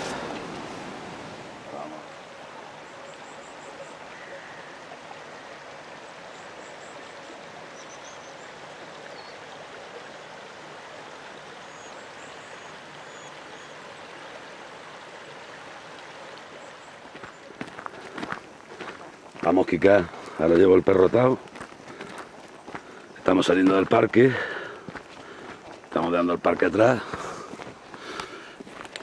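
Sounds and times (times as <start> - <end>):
stream rushing over stones: 0.0 - 29.0.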